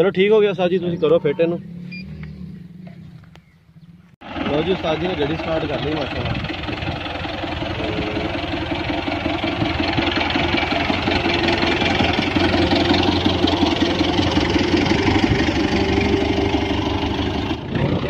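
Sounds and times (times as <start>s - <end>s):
tractor diesel engine running: 1.6s - 18.0s.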